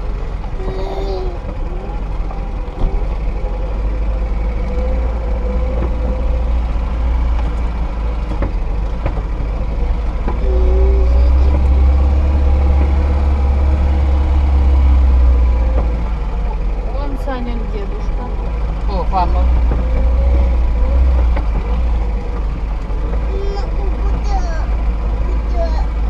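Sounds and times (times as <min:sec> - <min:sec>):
car engine driving on rough track: 0:00.0 - 0:26.0.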